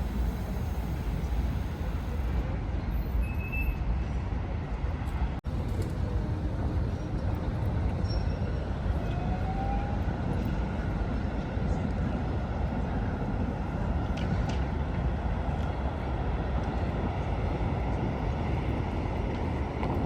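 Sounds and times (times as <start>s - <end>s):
street traffic: 0.0s - 20.0s
tram rumble: 0.0s - 20.0s.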